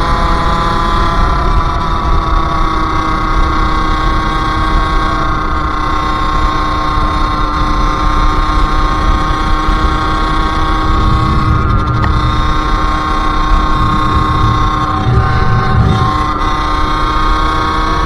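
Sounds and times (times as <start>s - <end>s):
two-stroke moped engine running: 0.0s - 18.0s
wind rumble on microphone: 0.0s - 18.0s.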